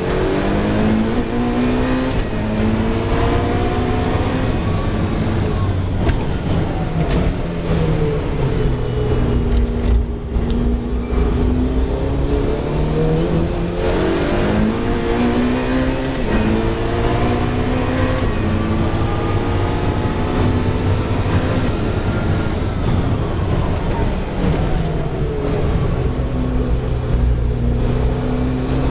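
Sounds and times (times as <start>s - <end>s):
quick gear upshifts: 0.0s - 28.9s
race car engine accelerating: 0.0s - 28.9s.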